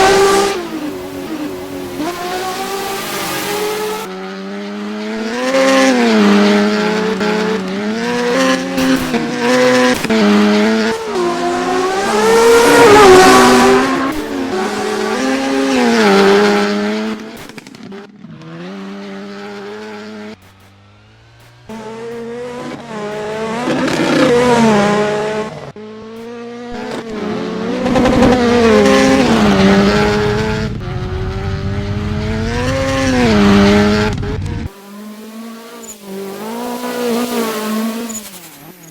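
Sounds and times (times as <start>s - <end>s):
racing cars revving past: 0.0s - 38.9s.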